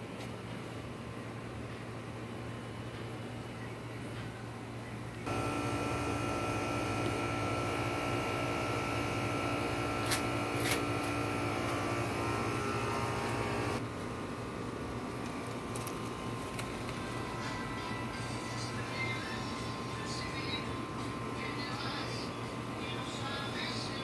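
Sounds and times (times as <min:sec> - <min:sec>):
low background hum: 0:00.0 - 0:24.0
machine whining hum: 0:01.1 - 0:24.0.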